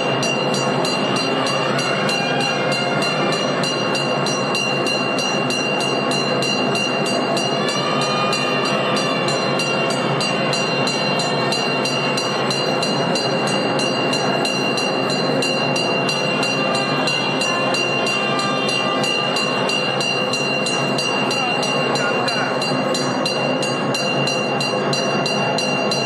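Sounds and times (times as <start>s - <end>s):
dense wash of crowd noise: 0.0s - 26.0s
steady high ringing tone: 0.0s - 26.0s.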